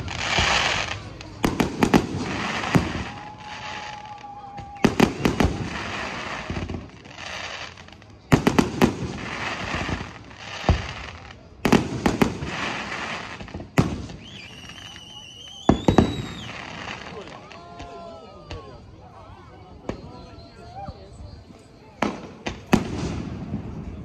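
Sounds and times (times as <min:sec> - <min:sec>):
fireworks bangs: 0:00.0 - 0:18.8, 0:22.0 - 0:24.0
fireworks crackling: 0:00.0 - 0:19.0, 0:21.6 - 0:24.0.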